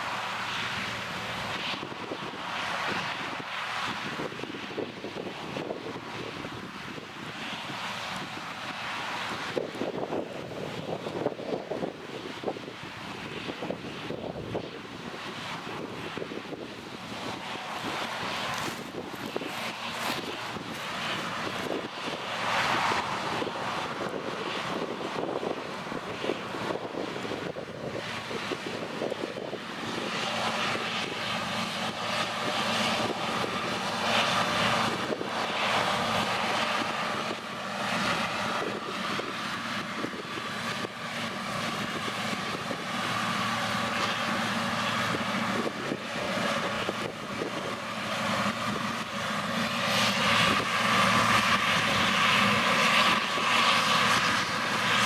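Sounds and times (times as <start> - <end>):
engine drone: 0.0 - 55.0.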